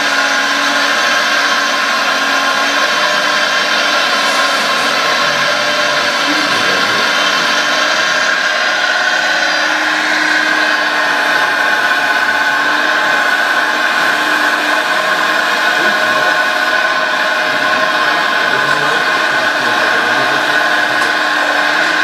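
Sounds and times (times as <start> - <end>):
electric drive and pump whining: 0.0 - 22.0.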